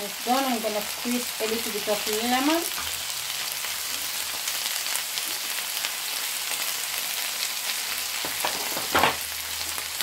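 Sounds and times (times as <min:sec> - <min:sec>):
chicken sizzling in grill pan: 0:00.0 - 0:10.0.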